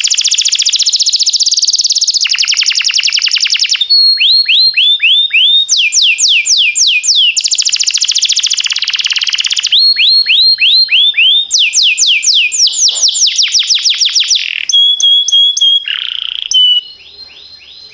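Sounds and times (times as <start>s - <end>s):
canary singing: 0.0s - 17.9s.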